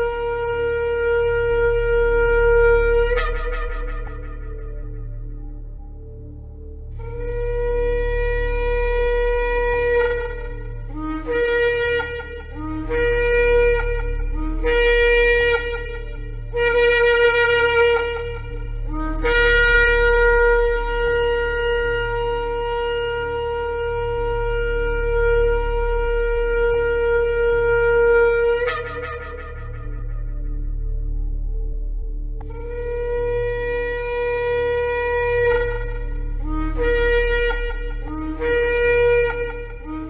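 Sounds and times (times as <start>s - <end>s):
shofar blasts: 0.0s - 6.1s, 7.0s - 31.5s, 32.4s - 40.0s
low steady hum: 0.0s - 40.0s.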